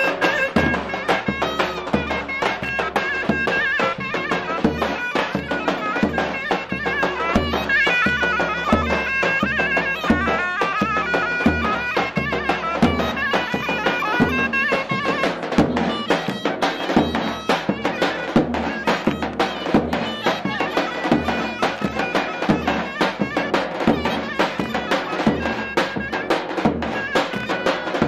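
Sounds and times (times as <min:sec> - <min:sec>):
davul drum strokes: 0:00.0 - 0:28.0
zurna folk melody: 0:00.0 - 0:28.0.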